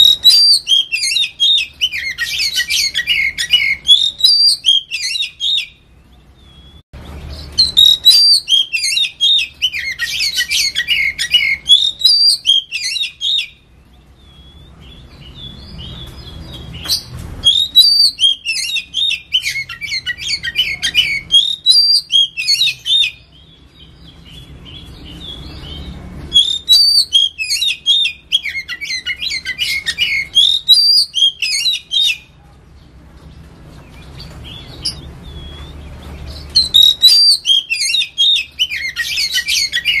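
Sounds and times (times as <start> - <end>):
bird singing whistled notes: 0.0 - 13.6, 14.2 - 32.3, 34.1 - 40.0.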